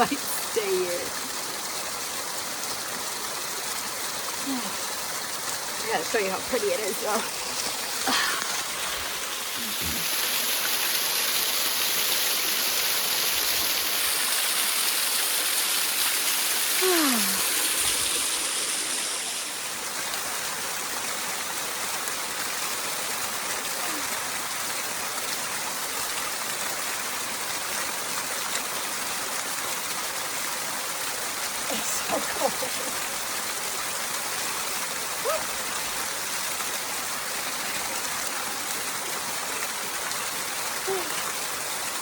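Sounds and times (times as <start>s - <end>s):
waterfall rushing over rocks: 0.0s - 42.0s.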